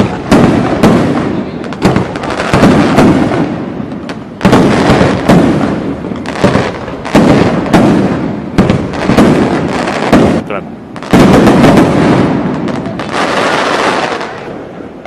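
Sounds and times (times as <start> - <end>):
fireworks bursting with loud bangs: 0.0 - 15.0.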